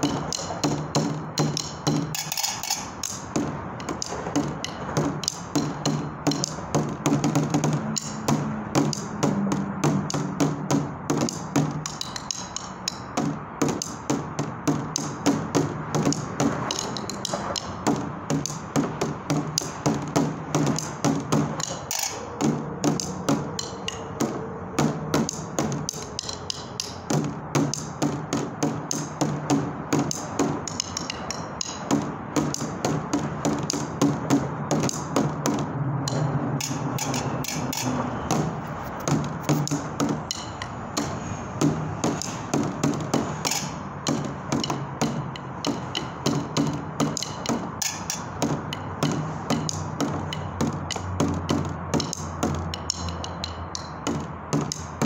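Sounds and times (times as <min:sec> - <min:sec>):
stick drumming on plastic bucket: 0:00.0 - 0:55.0.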